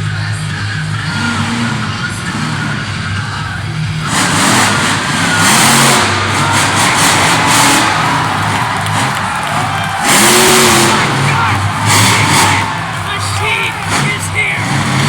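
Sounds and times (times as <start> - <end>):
monster truck engine revving: 0.0 - 15.0
loud rush of noise: 1.1 - 15.0.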